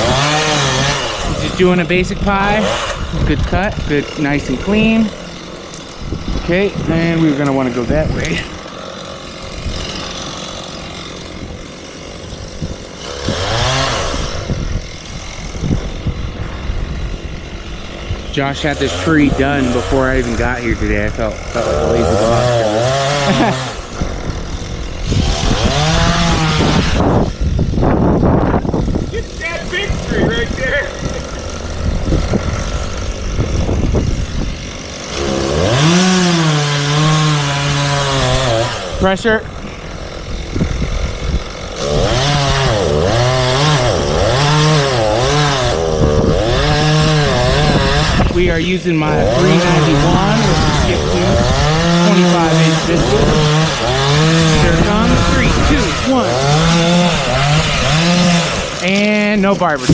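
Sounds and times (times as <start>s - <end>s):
chainsaw revving: 0.0s - 59.9s
low rumbling noise: 0.0s - 59.9s.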